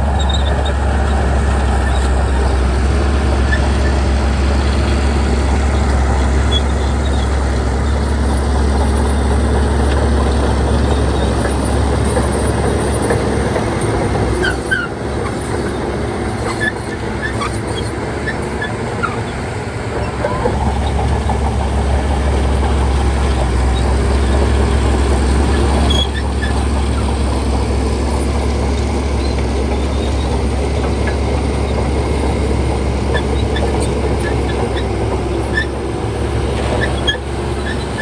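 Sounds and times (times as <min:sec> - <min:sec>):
bulldozer diesel engine: 0:00.0 - 0:38.0.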